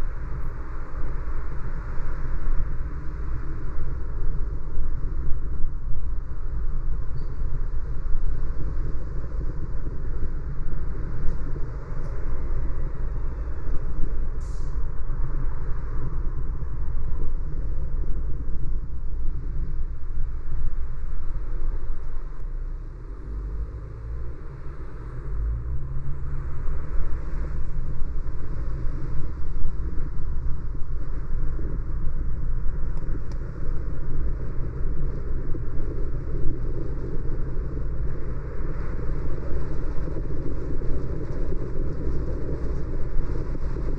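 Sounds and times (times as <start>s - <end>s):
car road and engine noise: 0.0s - 43.9s.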